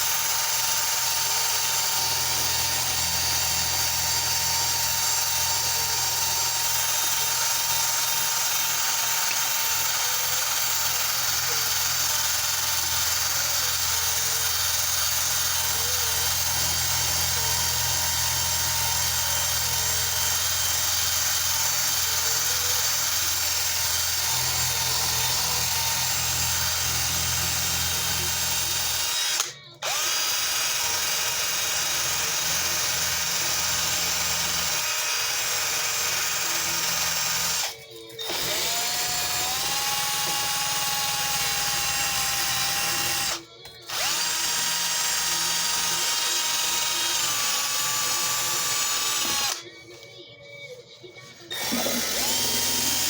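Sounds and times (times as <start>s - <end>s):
drill grinding on iron: 0.0s - 49.7s, 51.4s - 53.0s.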